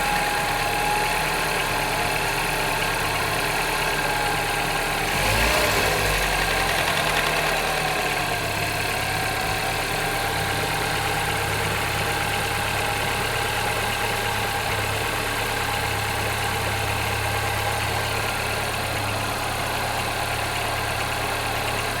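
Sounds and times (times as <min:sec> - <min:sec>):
car engine idling: 0:00.0 - 0:22.0
engine rattle: 0:00.0 - 0:22.0.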